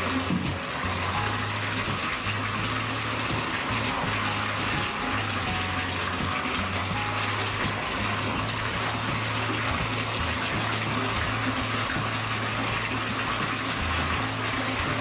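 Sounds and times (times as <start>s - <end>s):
water pouring into bathtub: 0.0s - 15.0s.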